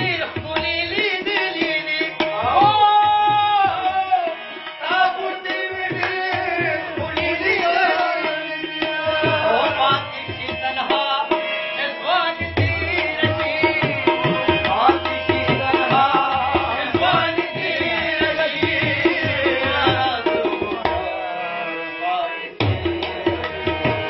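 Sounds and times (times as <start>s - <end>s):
tabla drumming: 0.0s - 21.4s, 22.6s - 24.0s
harmonium melody: 0.0s - 24.0s.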